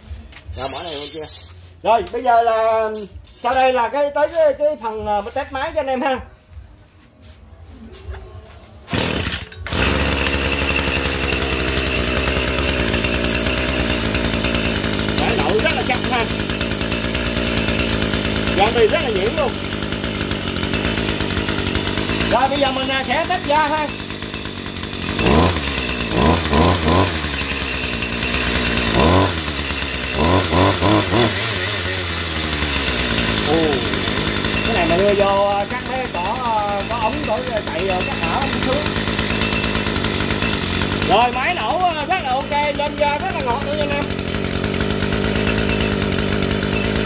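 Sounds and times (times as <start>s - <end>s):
brushcutter engine starting and running: 0.5s - 5.4s, 8.9s - 47.0s.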